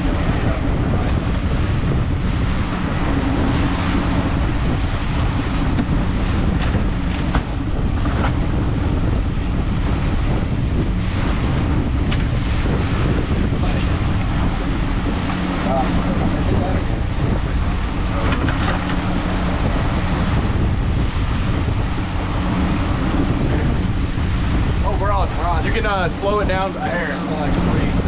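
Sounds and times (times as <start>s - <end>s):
outboard motor running: 0.0s - 28.0s
wake rushing: 0.0s - 28.0s
wind buffeting microphone: 0.0s - 28.0s.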